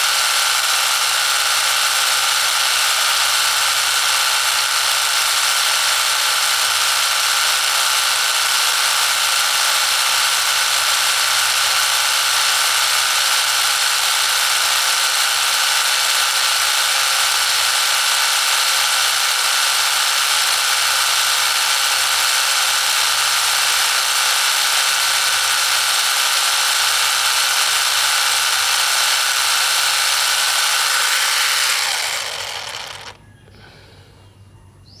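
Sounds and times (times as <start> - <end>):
small diesel engine running: 0.0 - 34.2.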